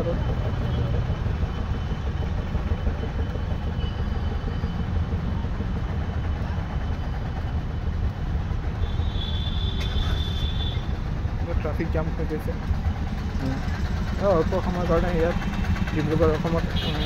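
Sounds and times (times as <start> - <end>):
traffic rumble: 0.0 - 17.0
vehicle engines idling: 0.0 - 17.0.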